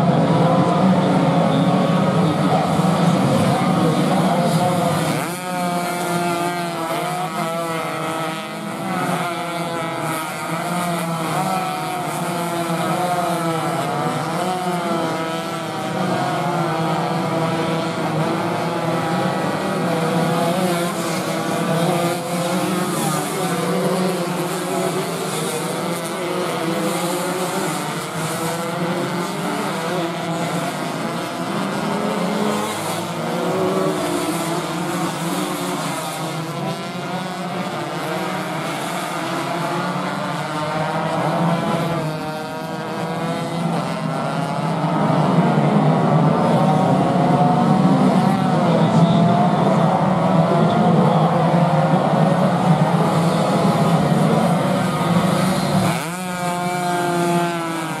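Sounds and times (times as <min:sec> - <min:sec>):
racing motorcycles revving: 0:00.0 - 0:58.0.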